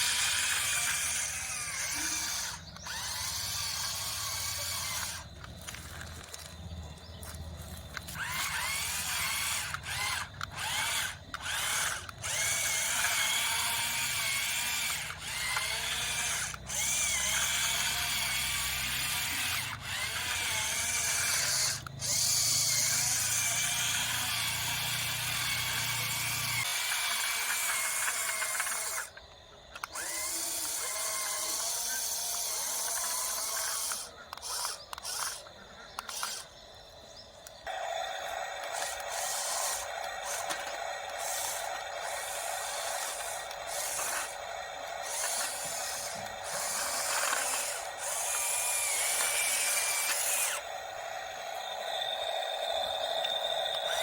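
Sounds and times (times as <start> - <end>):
small electric motors whining: 0.0 - 54.0.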